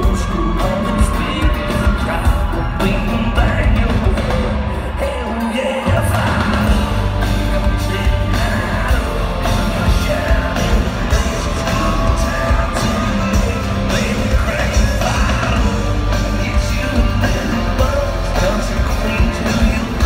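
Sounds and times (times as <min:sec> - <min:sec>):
country-rock band playing live: 0:00.0 - 0:20.0
man singing: 0:00.0 - 0:20.0.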